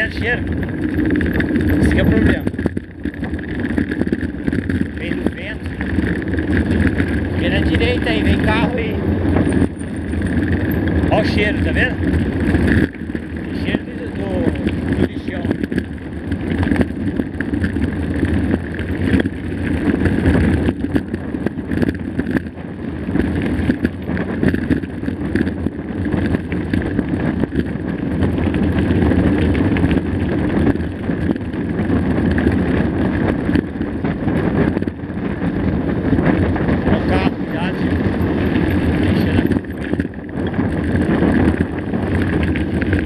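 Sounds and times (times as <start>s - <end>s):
bike rattles and knocks: 0.0s - 43.0s
wind noise on microphone: 0.0s - 43.0s.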